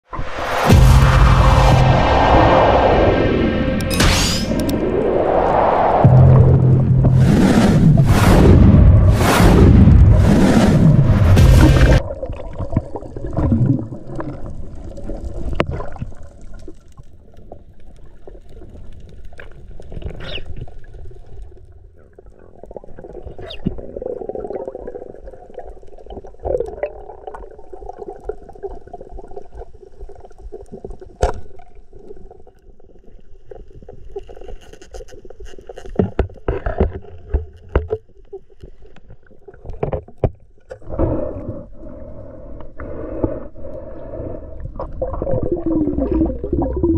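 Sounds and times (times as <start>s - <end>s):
muffled water gurgling: 4.6s - 35.7s, 36.4s - 46.9s.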